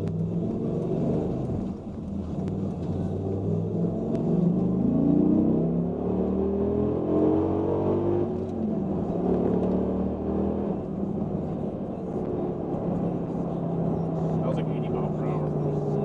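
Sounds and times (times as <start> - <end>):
engine accelerating heard from cab: 0.0 - 16.0.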